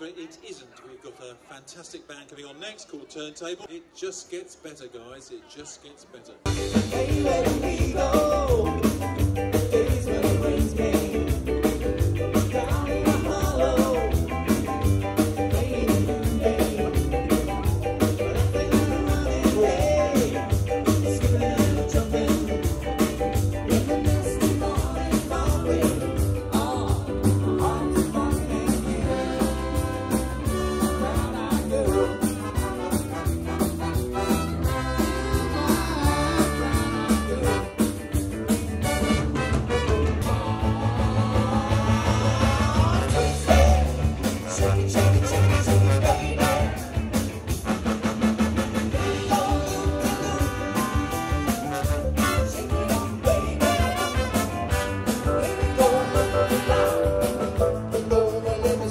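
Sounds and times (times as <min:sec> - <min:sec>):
person singing: 0:06.5 - 0:33.3, 0:34.2 - 0:37.9, 0:39.6 - 0:47.3, 0:48.9 - 0:58.9
drum kit beat: 0:06.5 - 0:58.9.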